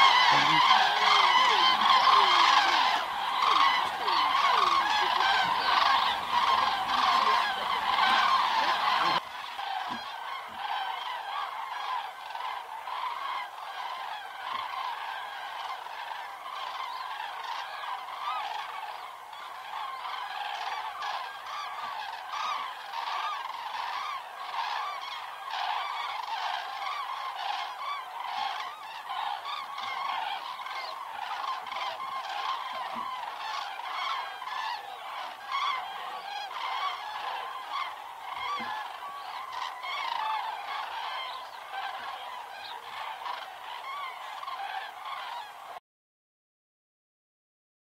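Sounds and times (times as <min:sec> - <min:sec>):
cranes trumpeting calls: 0:00.0 - 0:45.8.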